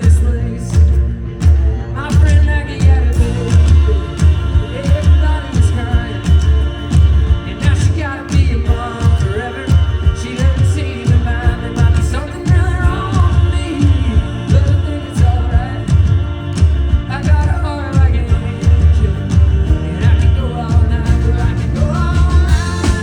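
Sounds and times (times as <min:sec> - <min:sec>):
live band playing: 0:00.0 - 0:23.0
person singing: 0:00.0 - 0:23.0.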